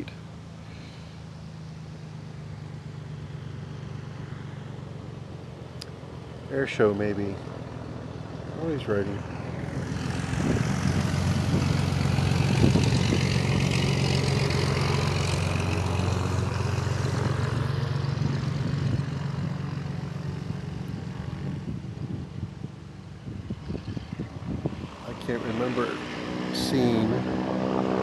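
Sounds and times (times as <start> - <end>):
propeller airplane engine: 0.0 - 28.0.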